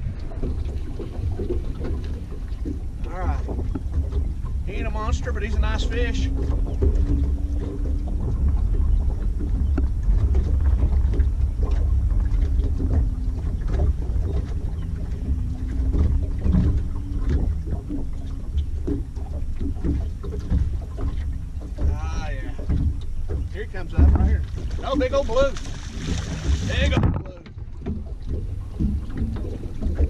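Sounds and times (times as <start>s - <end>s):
choppy water against boat hull: 0.0s - 30.0s
wind rumble: 0.0s - 30.0s.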